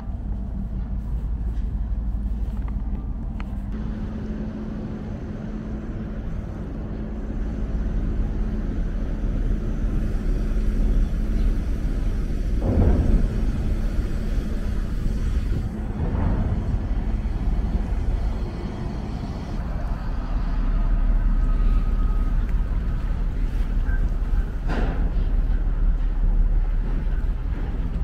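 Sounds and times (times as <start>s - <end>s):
ferry machinery rumble and hum: 0.0s - 28.0s
truck engine: 0.0s - 28.0s.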